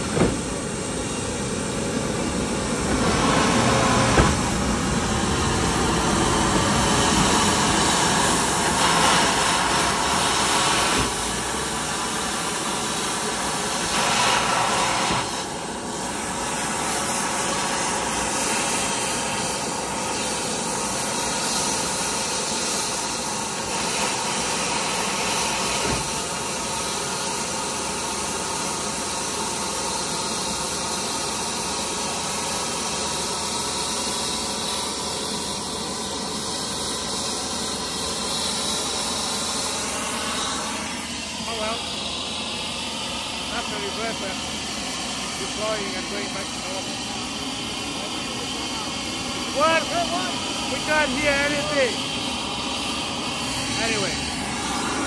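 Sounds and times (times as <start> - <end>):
jet turbine whine and roar: 0.0 - 55.0.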